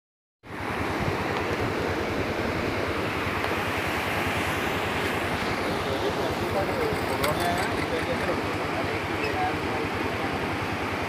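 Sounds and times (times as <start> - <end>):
flooded river rushing: 0.5 - 11.0.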